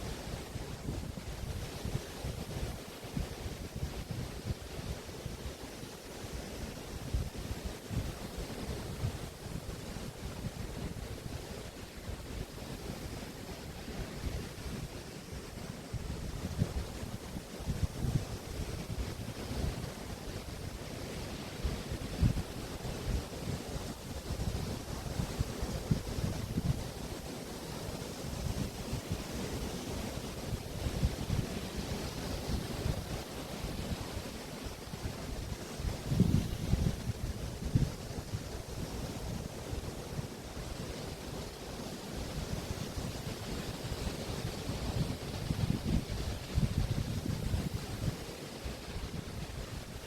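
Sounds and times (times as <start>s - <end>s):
waves washing onto beach: 0.0s - 50.0s
wind gusting on microphone: 6.9s - 27.3s, 28.2s - 41.5s, 42.2s - 50.0s.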